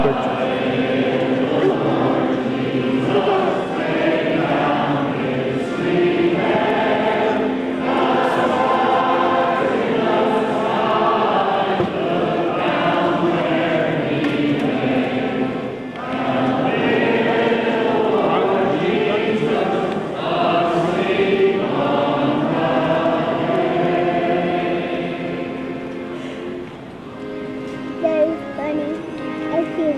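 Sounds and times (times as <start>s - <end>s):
choir singing: 0.0s - 26.9s.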